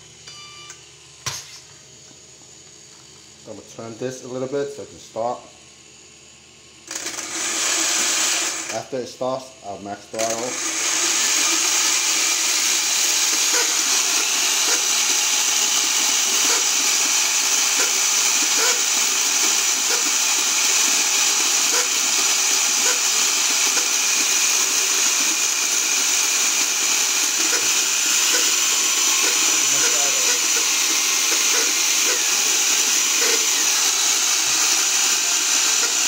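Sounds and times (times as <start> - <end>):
electric motor whirring with high whine: 5.2 - 36.0.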